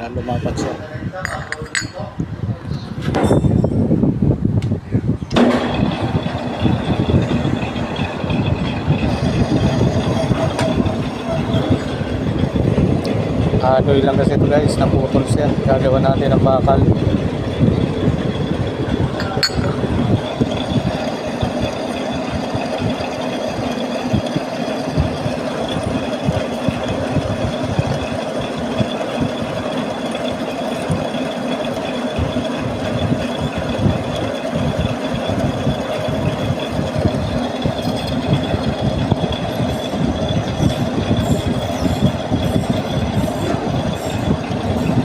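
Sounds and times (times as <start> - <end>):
metal lathe whine: 5.2 - 45.0
lathe rattling: 5.3 - 45.0.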